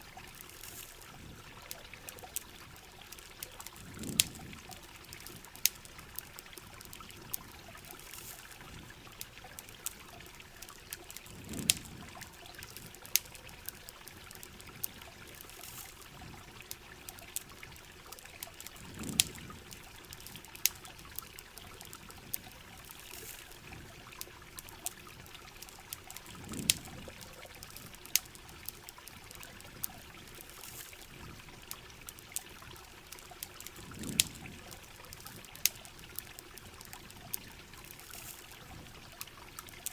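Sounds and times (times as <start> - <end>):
campfire crackling: 0.0 - 39.9
rain and trickling water: 0.0 - 39.9.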